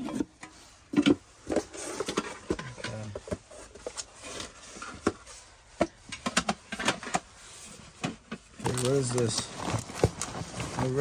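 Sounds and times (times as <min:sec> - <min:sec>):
cardboard rustling and scraping: 0:00.0 - 0:06.0, 0:06.6 - 0:11.0.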